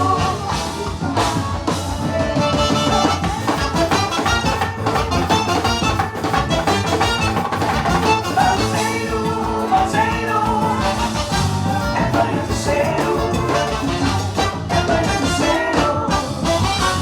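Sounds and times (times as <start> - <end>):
fast steady drum beat: 0.0 - 17.0
live band playing upbeat music: 0.0 - 17.0.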